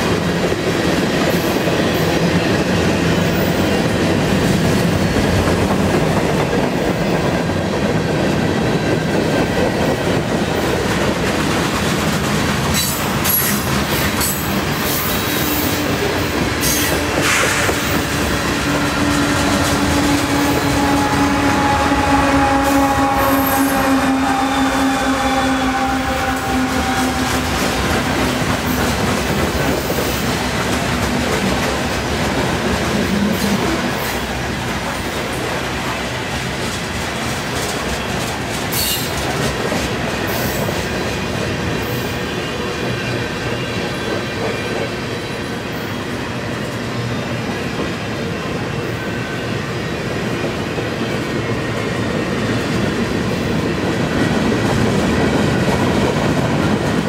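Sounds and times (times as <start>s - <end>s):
diesel locomotive engine hum: 0.0s - 57.0s
train wheels roaring on rail: 0.0s - 57.0s.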